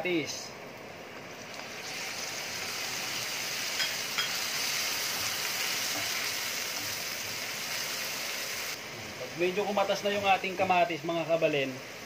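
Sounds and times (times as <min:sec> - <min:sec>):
tomatoes sizzling in hot oil: 0:01.3 - 0:12.0.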